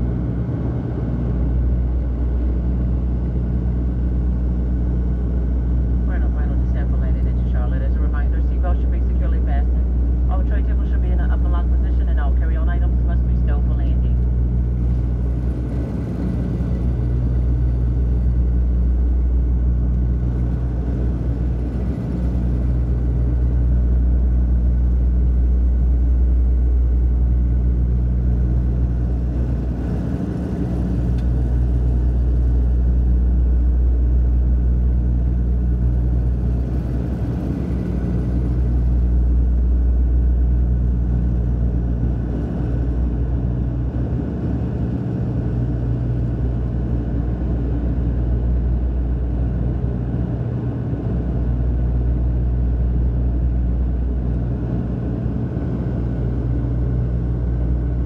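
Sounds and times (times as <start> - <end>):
propeller airplane cabin drone: 0.0 - 58.0.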